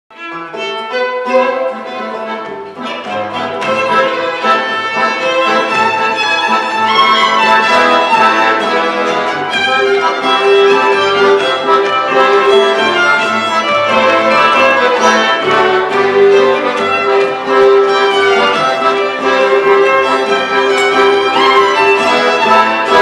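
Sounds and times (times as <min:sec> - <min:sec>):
violin melody: 0:00.1 - 0:23.0
button accordion: 0:00.2 - 0:23.0.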